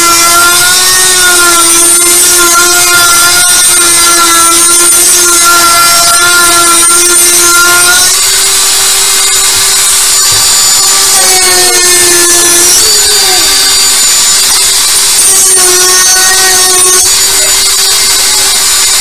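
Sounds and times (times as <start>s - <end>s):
rotary tool grinding plastic: 0.0s - 19.0s.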